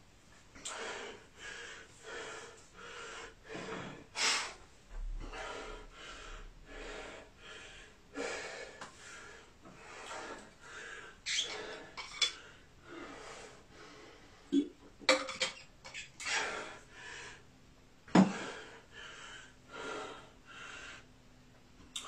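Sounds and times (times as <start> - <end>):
man breathing hard: 0.6 - 14.6, 16.2 - 21.4.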